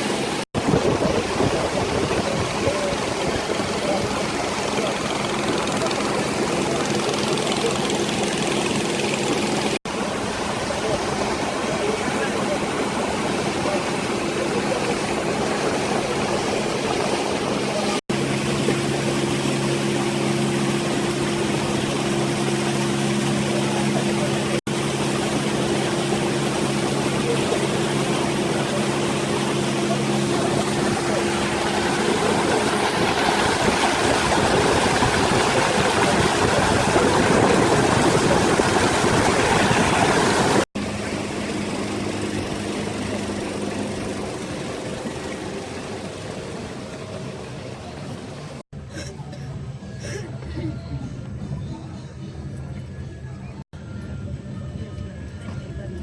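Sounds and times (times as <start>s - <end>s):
loud wash of noise: 0.0s - 48.6s
engine running steadily: 0.0s - 56.0s.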